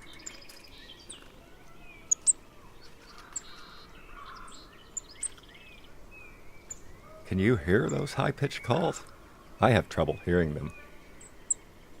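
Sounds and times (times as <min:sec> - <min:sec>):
other birds singing faintly: 0:00.0 - 0:12.0.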